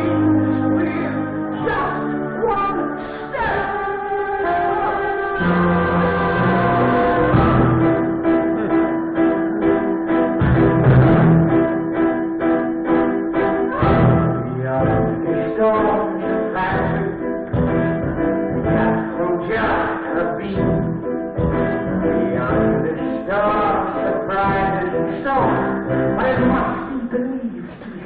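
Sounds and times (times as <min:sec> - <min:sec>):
pit orchestra playing strings: 0:00.0 - 0:26.7.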